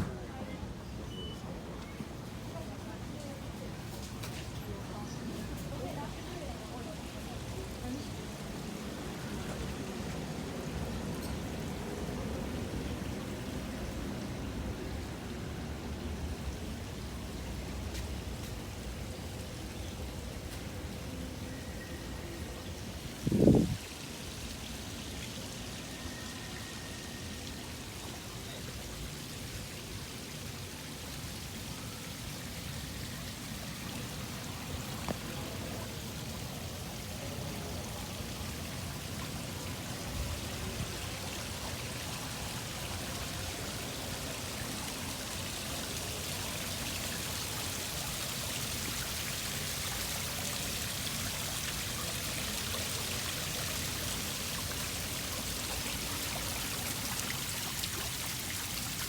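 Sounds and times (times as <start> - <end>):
steady water-like rushing: 2.2 - 59.0.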